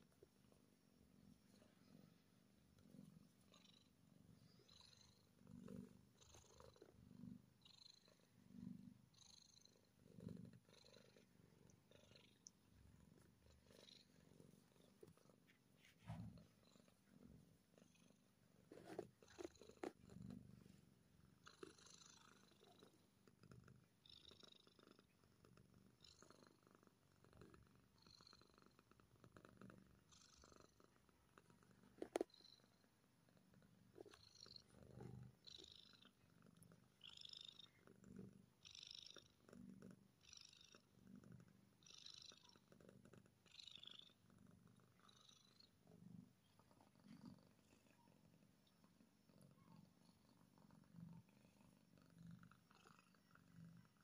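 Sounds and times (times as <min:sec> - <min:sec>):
kitten purring: 0:00.0 - 0:54.0.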